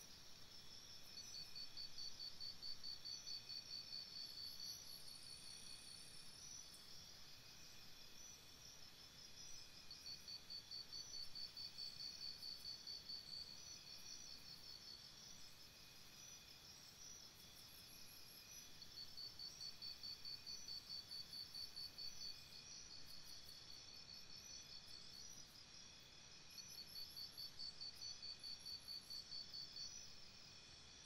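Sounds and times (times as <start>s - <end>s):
insects chirping: 0.0s - 31.0s
soft background hiss: 0.0s - 31.0s.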